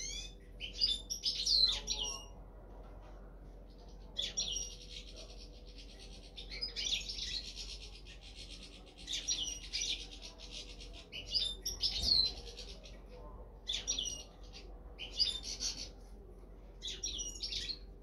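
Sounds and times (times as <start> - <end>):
finch twittering song: 0.0 - 2.4, 3.7 - 13.1, 13.7 - 16.0, 16.8 - 18.0.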